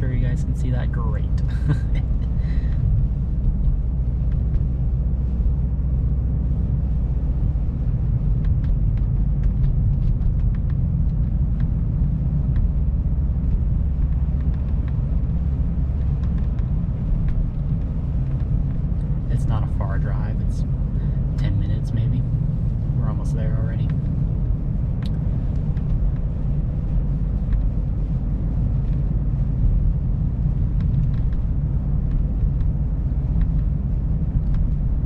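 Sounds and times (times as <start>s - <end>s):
car cabin road rumble: 0.0s - 35.0s.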